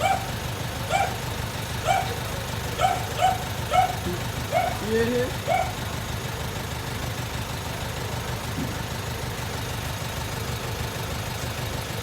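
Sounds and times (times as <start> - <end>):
garbage truck engine idling: 0.0 - 12.0.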